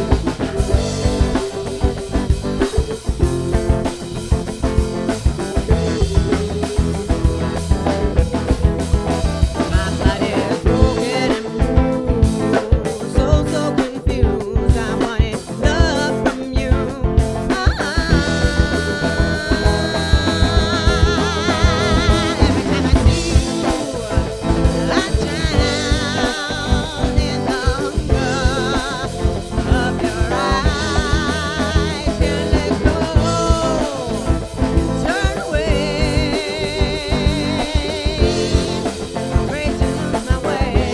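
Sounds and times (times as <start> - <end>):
wavering lead melody: 0.0 - 13.8, 17.3 - 40.9
funk band playing: 0.0 - 40.9.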